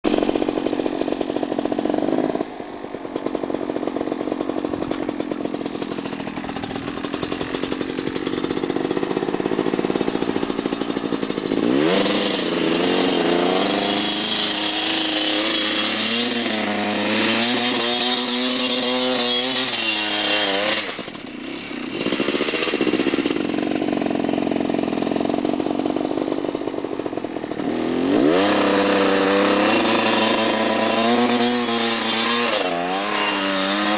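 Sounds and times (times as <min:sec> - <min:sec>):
motorcycle engine revving hard: 0:00.0 - 0:33.9.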